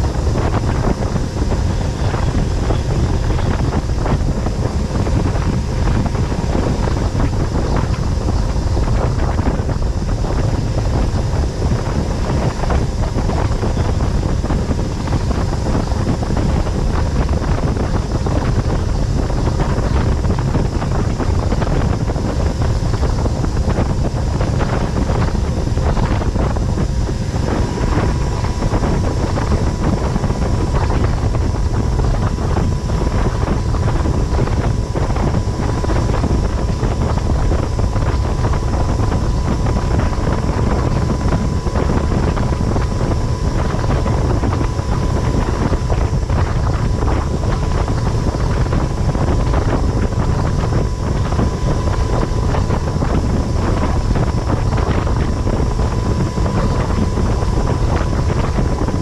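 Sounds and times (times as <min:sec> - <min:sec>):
boat engine drone: 0:00.0 - 0:59.0
faint steady whine: 0:00.0 - 0:59.0
rushing boat wake: 0:00.0 - 0:59.0
wind buffeting microphone: 0:00.0 - 0:59.0.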